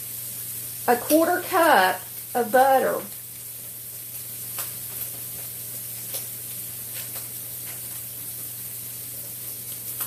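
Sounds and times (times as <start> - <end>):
sausage sizzling in a frying pan: 0.0 - 10.0.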